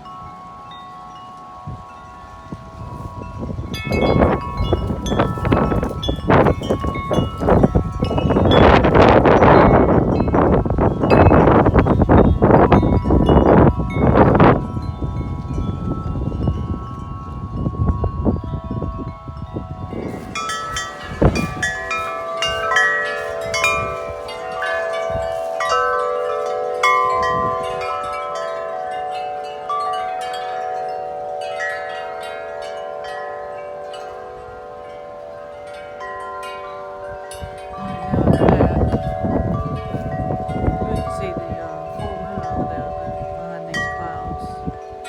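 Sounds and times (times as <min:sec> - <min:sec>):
wind chimes clanging: 0:00.0 - 0:45.0
wind rumble on microphone: 0:00.0 - 0:45.0.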